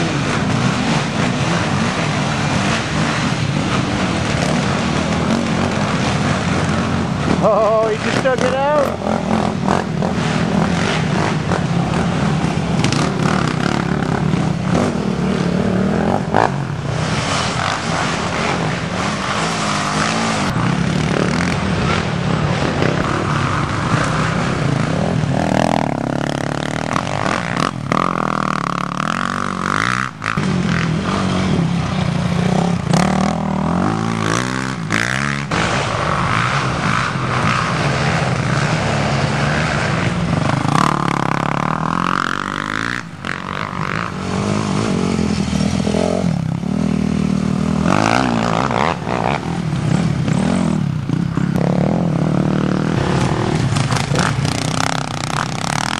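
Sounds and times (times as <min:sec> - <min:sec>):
quad engines revving: 0:00.0 - 0:55.9.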